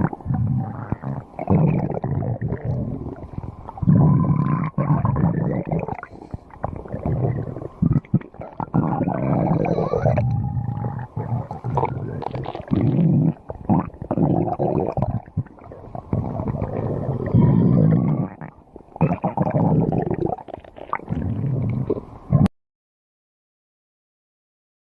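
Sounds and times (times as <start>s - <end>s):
stomach growling: 0.0s - 22.5s.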